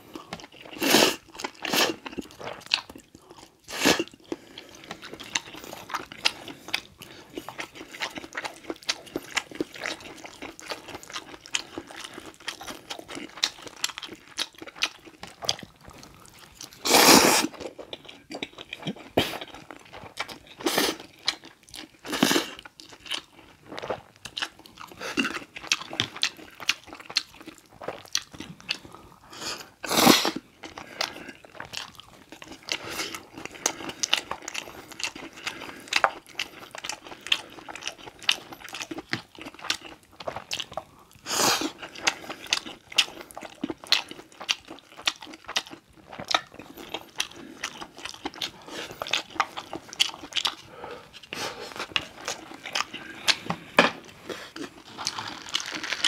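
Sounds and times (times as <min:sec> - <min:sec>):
chewing and slurping noodles: 0:00.0 - 0:56.0.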